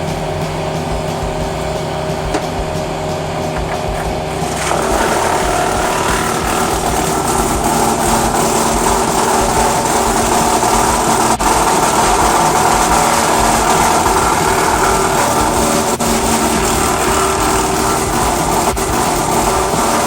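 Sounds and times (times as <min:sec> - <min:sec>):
wood chipper and tractor drone: 0:00.0 - 0:20.0.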